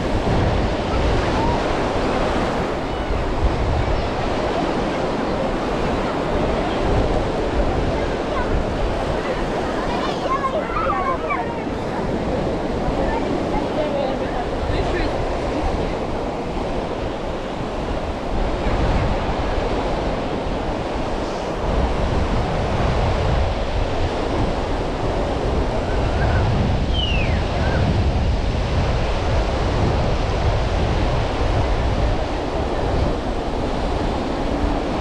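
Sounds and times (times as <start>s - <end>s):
sea waves washing onto beach: 0.0s - 35.0s
wind buffeting microphone: 0.0s - 35.0s.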